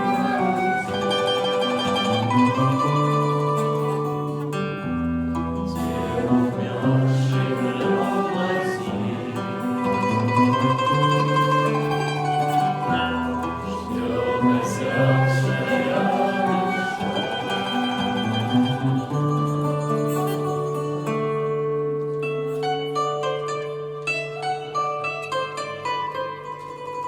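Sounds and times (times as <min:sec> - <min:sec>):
plucked string instruments melody: 0:00.0 - 0:27.0.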